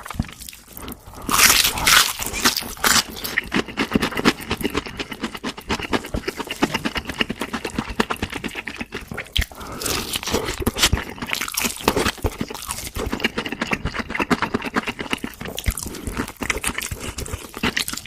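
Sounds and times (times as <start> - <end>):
crunching of crispy food: 0.0 - 18.0.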